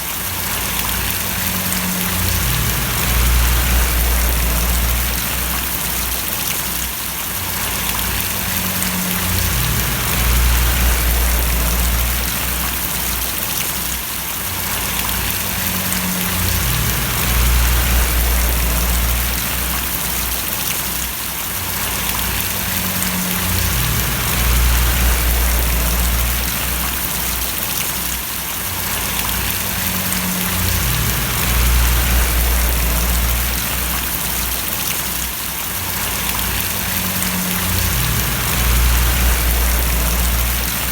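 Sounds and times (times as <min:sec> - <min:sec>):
rain splashing and pattering: 0:00.0 - 0:40.9
low rumble: 0:00.6 - 0:06.6, 0:07.6 - 0:13.5, 0:14.8 - 0:20.7, 0:21.8 - 0:27.7, 0:29.1 - 0:34.9, 0:36.0 - 0:40.9.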